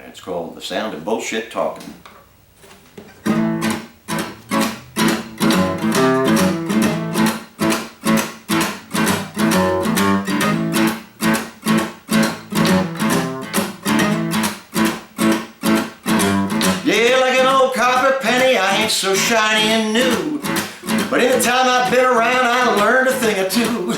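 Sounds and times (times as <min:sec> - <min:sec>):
acoustic guitar strummed blues rhythm: 0:02.6 - 0:23.9.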